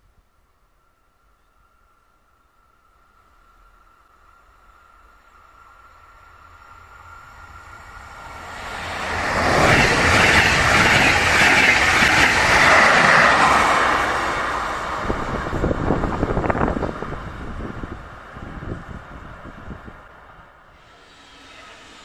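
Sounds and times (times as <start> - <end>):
train passing at speed: 0.8 - 22.0
wheels rushing on rail: 1.7 - 22.0.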